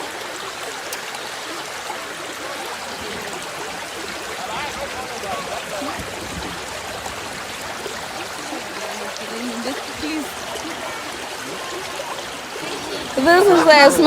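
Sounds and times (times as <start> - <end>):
faint voices: 0.0 - 14.0
river water rushing: 0.0 - 14.0.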